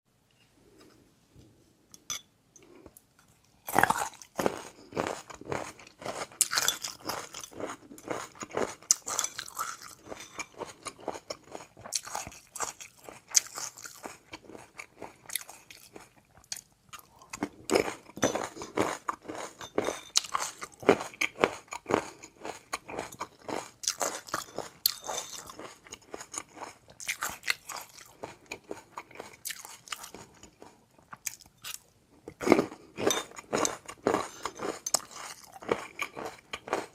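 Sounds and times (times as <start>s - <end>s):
person crunching and chewing: 3.6s - 36.9s.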